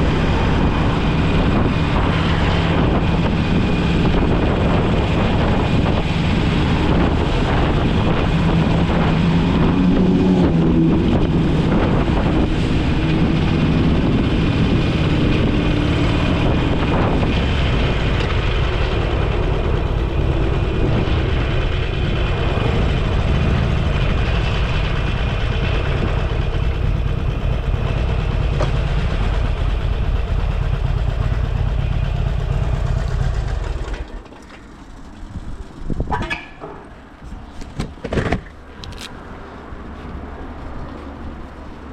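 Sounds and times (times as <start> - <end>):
motorcycle engine running: 0.0 - 37.7
wind and road noise: 0.0 - 41.9.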